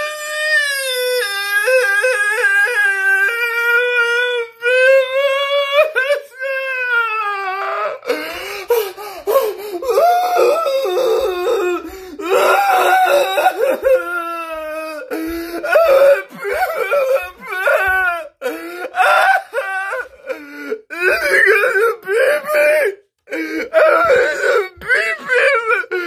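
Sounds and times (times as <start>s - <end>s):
man crying and sobbing: 0.0s - 26.0s.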